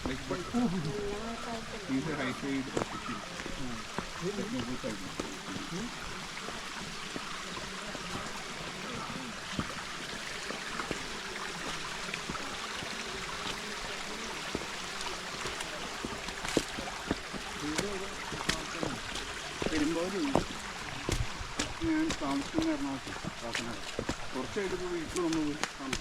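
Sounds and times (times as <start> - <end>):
faint low voices: 0.0 - 21.2
flowing stream: 0.0 - 26.0.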